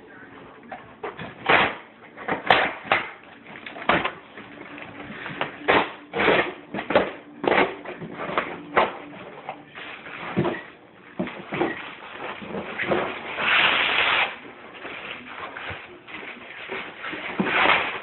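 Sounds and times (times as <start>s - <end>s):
packaging rustling and crinkling: 2.9s - 18.0s.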